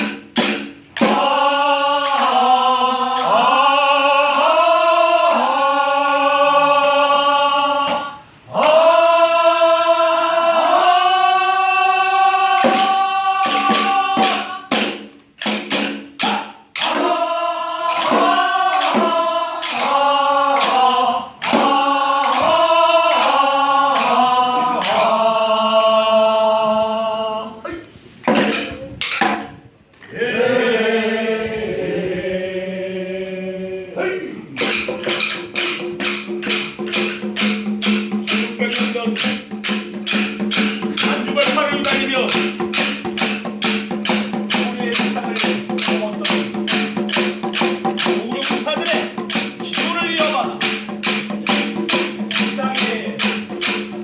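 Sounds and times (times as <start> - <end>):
person singing unaccompanied: 0.0 - 27.9, 30.0 - 54.0.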